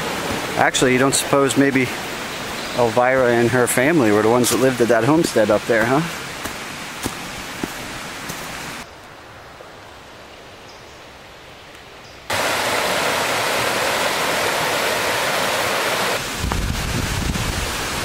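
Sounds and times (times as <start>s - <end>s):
rushing creek water: 0.0s - 9.7s, 12.3s - 18.0s.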